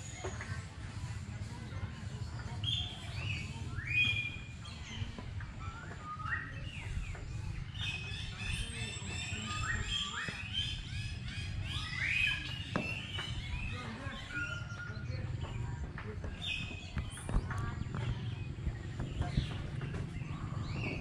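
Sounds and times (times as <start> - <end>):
birds chirping and squawking: 2.5 - 21.0.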